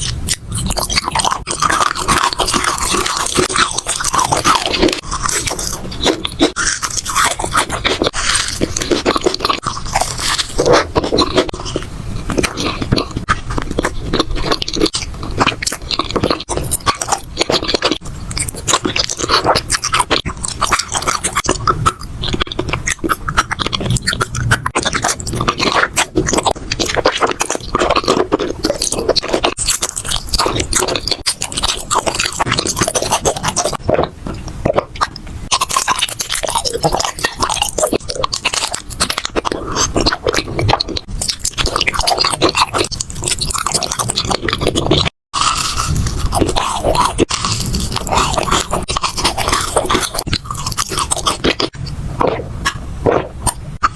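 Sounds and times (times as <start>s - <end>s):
chewing and crunching crisp food: 0.0s - 53.9s.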